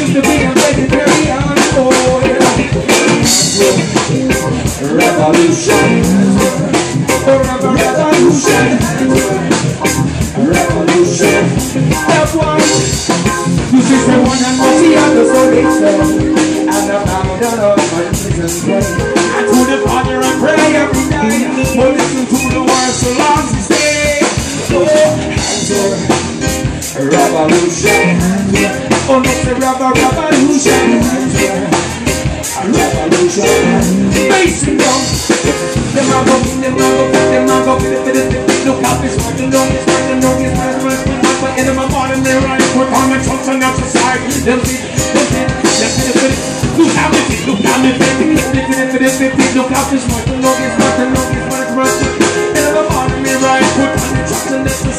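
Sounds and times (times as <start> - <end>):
live reggae band: 0.0 - 54.9
man singing: 0.0 - 54.9.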